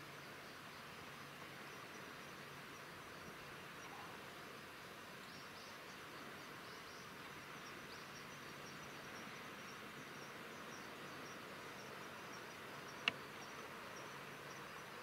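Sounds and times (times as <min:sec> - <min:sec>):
insects chirping: 0:00.0 - 0:15.0
outdoor background hiss: 0:00.0 - 0:15.0.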